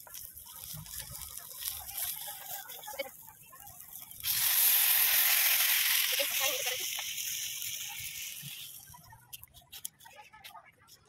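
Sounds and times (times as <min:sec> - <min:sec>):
loud steady sizzle: 0:00.0 - 0:09.6.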